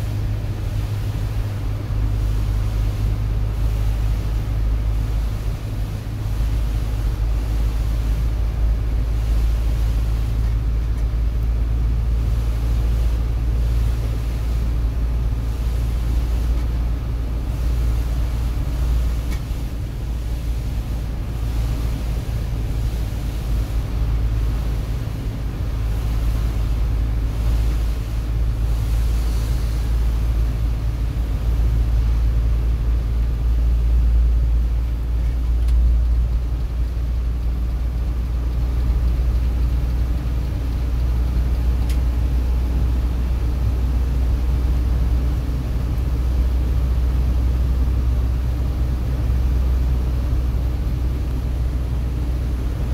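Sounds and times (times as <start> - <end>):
engine and road rumble: 0.0 - 52.9
tyres hissing on wet road: 0.0 - 52.9.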